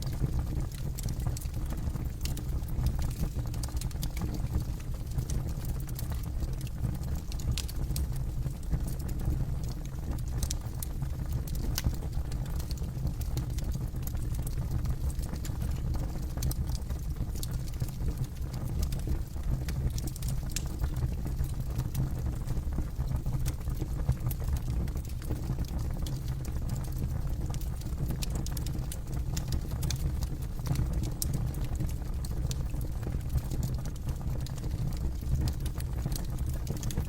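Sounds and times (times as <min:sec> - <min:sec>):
low rumble of flames: 0:00.0 - 0:37.0
wood crackling and popping: 0:00.1 - 0:37.0.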